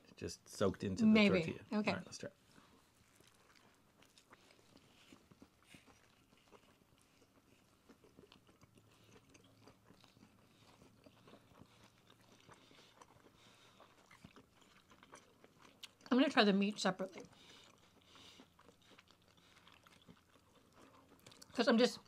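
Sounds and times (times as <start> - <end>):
people chewing: 1.4 - 22.0.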